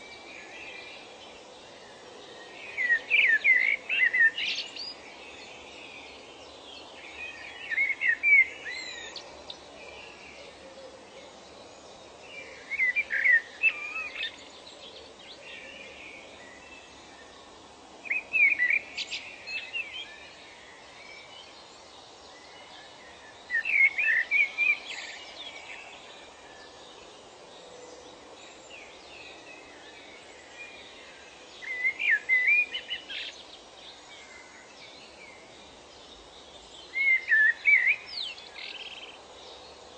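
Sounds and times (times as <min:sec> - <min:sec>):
faint background hiss: 0:00.0 - 0:39.9
songbird singing: 0:00.0 - 0:39.9.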